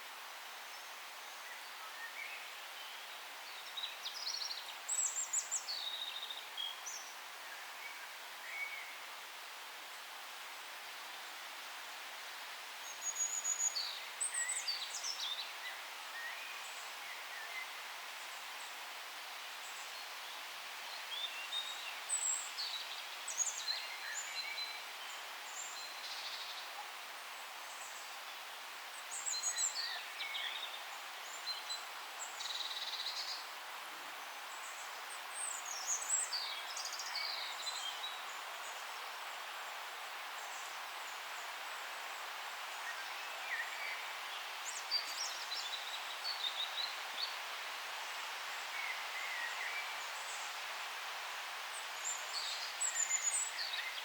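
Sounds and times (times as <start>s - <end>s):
soft background hiss: 0.0s - 54.0s.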